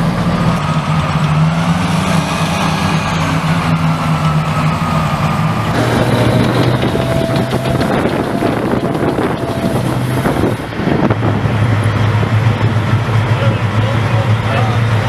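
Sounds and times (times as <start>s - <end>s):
tracked vehicle diesel engines: 0.0s - 15.0s.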